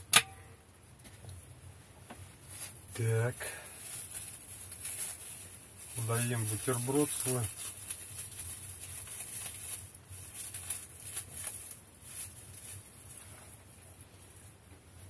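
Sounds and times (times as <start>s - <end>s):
plastic bag rustling and crinkling: 2.4s - 15.0s.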